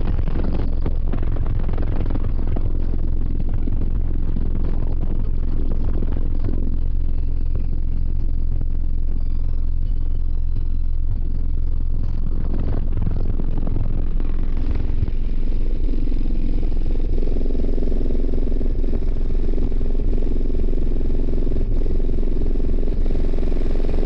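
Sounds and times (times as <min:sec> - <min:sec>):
loud deep bass from subwoofers: 0:00.0 - 0:24.0.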